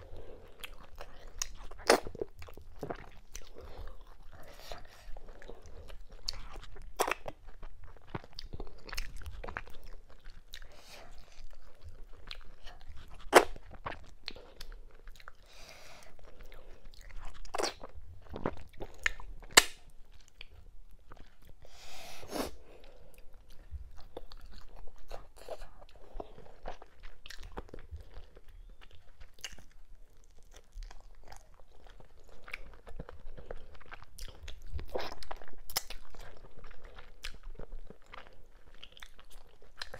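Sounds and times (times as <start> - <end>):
chewing and wet lip smacks: 0.5 - 21.6, 23.4 - 39.9.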